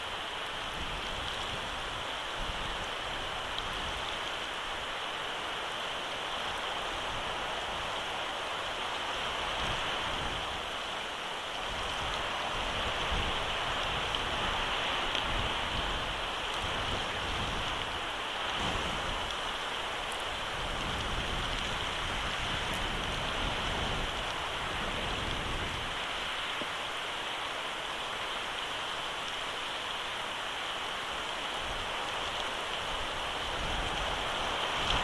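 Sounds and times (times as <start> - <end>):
rain hissing: 0.0 - 35.0.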